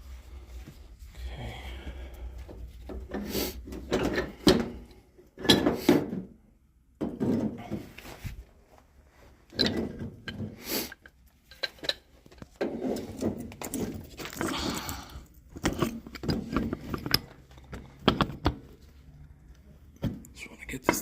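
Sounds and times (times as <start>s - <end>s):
objects clattering and knocking: 2.4s - 6.4s, 7.0s - 8.4s, 9.4s - 21.0s.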